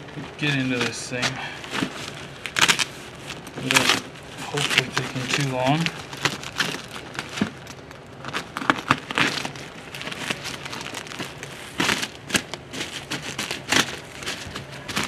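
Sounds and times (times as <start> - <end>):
tape and cardboard ripping: 0.4 - 15.0.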